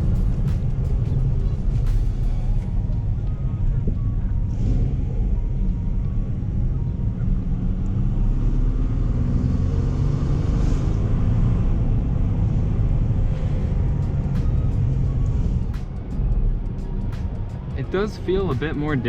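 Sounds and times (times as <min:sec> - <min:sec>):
car engine: 0:00.0 - 0:19.0
road rumble: 0:00.0 - 0:19.0.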